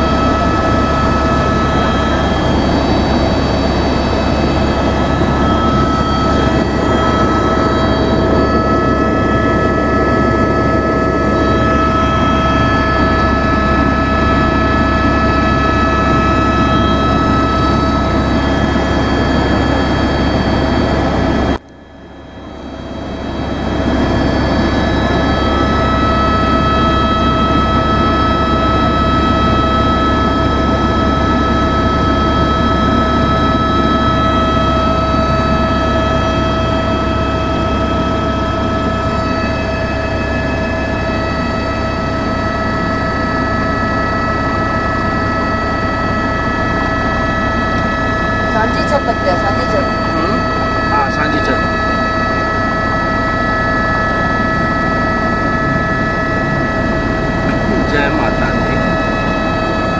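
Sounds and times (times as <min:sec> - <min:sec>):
helicopter low drone: 0:00.0 - 0:59.9
high-pitched whines: 0:00.0 - 0:59.9.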